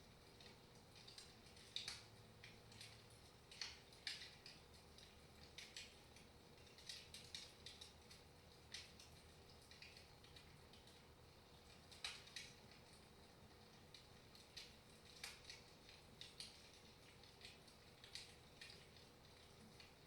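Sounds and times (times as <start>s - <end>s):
wood fire crackling softly: 0.0s - 20.0s.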